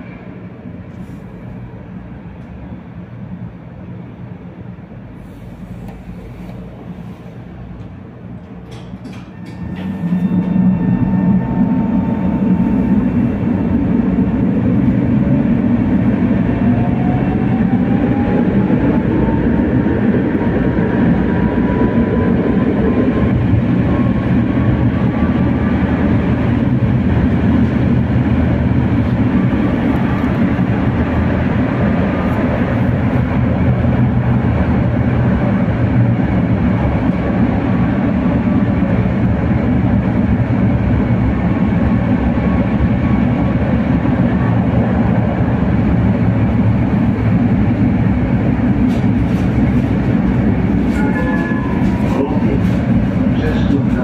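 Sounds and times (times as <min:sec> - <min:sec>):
tram rolling on rails: 0:00.0 - 0:54.0.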